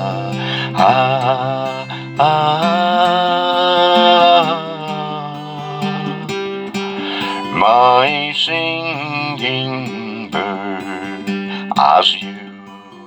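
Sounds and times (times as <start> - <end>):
acoustic guitar: 0.0 - 13.0
man singing: 0.0 - 13.0.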